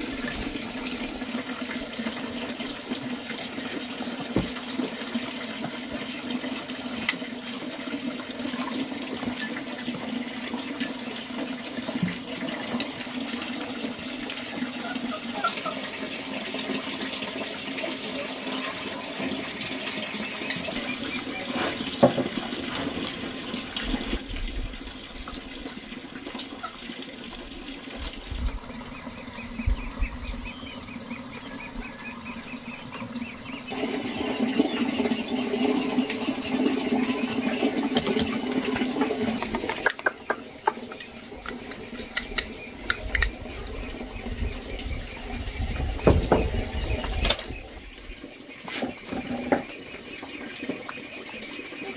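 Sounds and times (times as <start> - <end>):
running water: 0.0 - 51.9.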